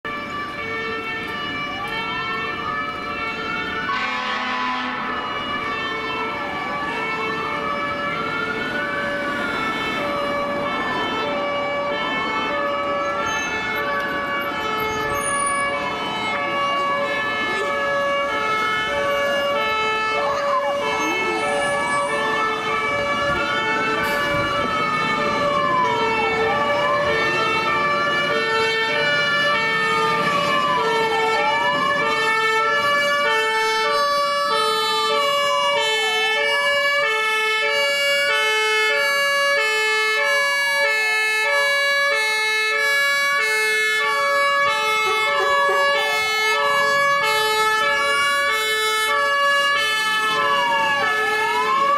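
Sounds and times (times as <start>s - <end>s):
two-tone fire engine siren: 0.0s - 51.9s
wailing siren: 0.0s - 51.9s.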